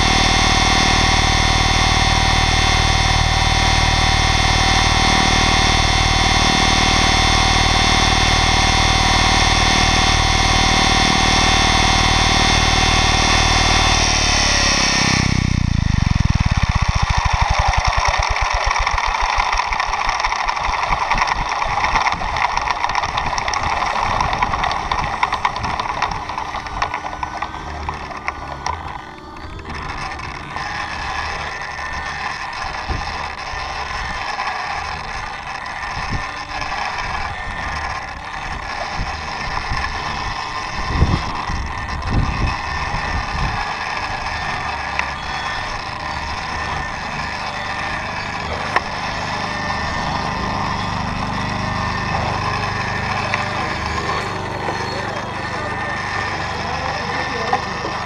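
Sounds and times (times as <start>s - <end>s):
electric motor whine: 0.0s - 58.0s
rotor blades swishing: 0.0s - 58.0s.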